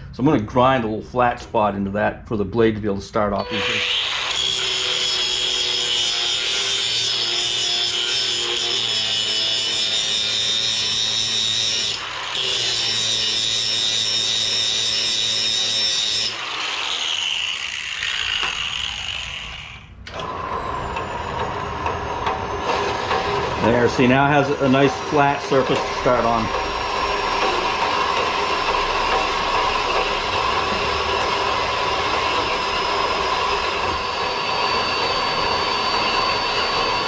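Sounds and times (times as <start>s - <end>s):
angle grinder grinding metal: 3.3s - 37.0s.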